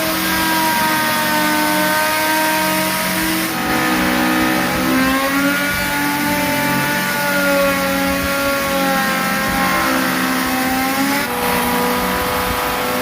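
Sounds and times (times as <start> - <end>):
power tool motor whining: 0.0 - 13.0.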